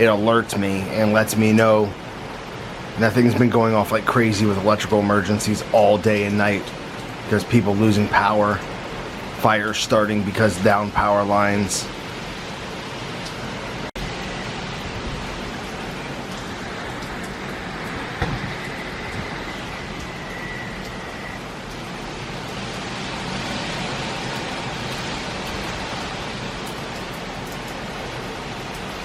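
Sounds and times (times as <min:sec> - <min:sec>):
strong wind and rain: 0:00.0 - 0:29.0.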